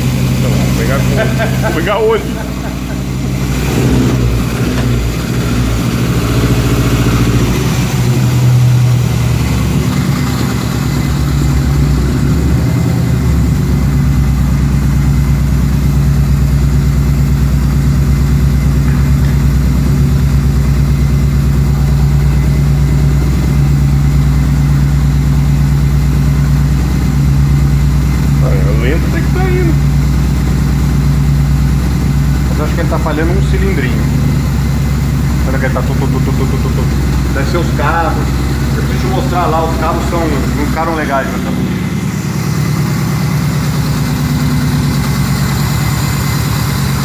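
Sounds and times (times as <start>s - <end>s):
car engine idling unevenly: 0.0s - 47.0s.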